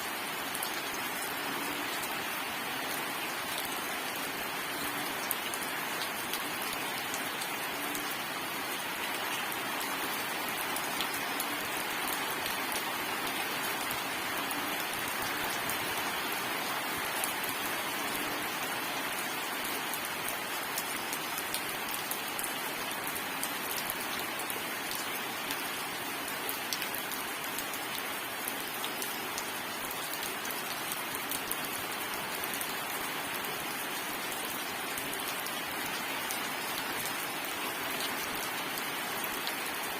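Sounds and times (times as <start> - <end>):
rain drops ticking on surfaces: 0.0 - 39.9
steady rain hiss: 0.0 - 39.9.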